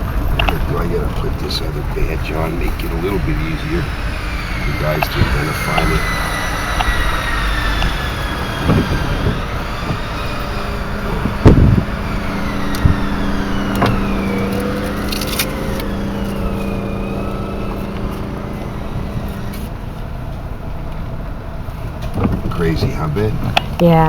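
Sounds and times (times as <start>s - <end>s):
car driving slowly: 0.0s - 24.0s
steady hum: 0.0s - 24.0s.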